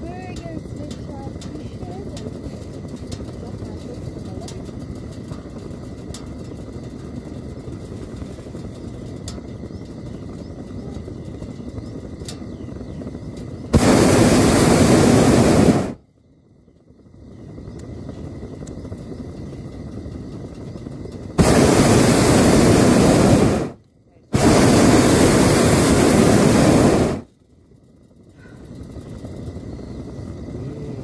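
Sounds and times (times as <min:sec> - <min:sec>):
propane burner roaring: 0:00.0 - 0:31.0.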